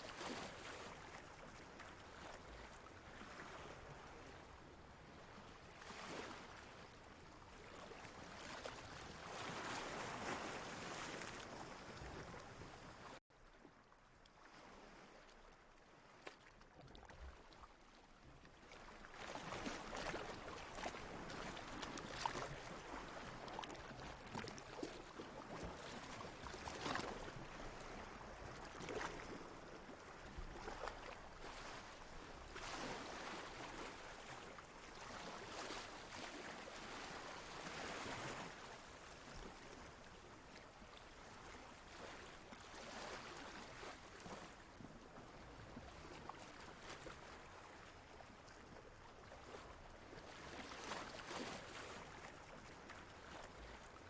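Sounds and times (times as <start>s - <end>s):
ocean water lapping and splashing: 0.0s - 54.0s.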